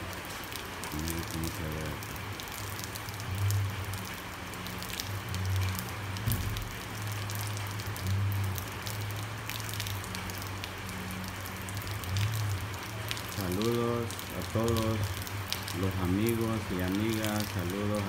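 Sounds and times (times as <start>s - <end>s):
rain falling on street and rooftops: 0.0s - 18.0s
raindrops ticking close by: 0.0s - 18.0s.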